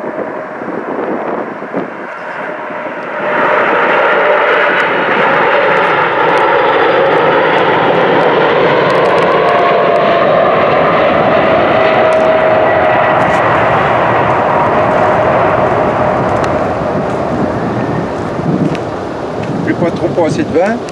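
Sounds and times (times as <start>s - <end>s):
jet engines on approach: 0.0s - 20.9s.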